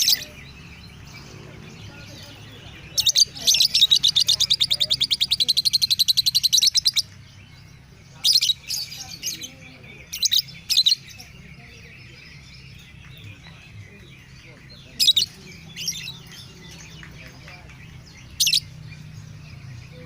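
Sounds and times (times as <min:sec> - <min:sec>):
lovebird chirping: 0:00.0 - 0:20.0.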